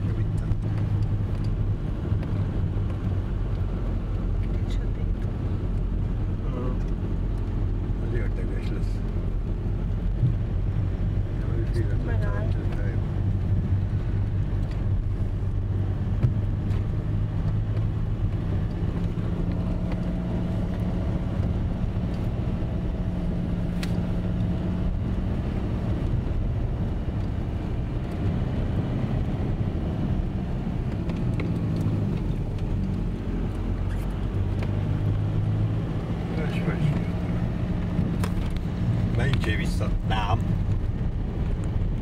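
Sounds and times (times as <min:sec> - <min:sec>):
car engine running under load: 0:00.0 - 0:42.0
tyre and road rumble: 0:00.0 - 0:42.0.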